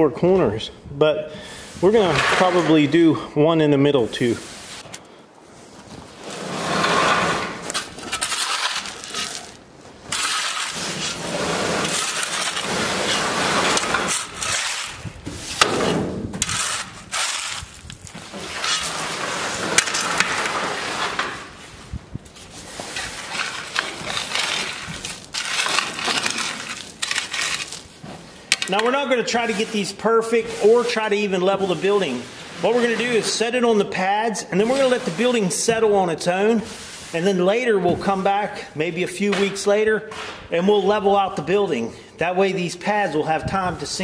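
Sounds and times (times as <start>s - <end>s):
tool scraping gravel: 1.6s - 3.2s, 3.8s - 38.3s.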